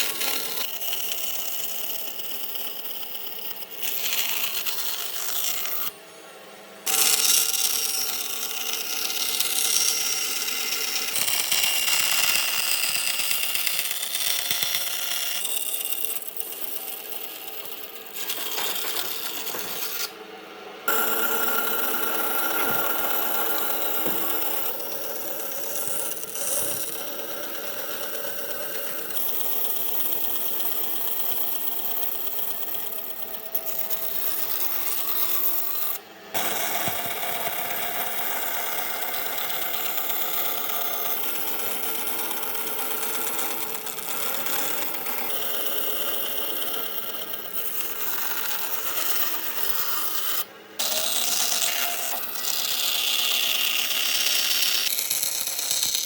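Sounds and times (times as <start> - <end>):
power tool rasping on wood: 0.0 - 5.9, 6.8 - 20.2, 20.8 - 56.0.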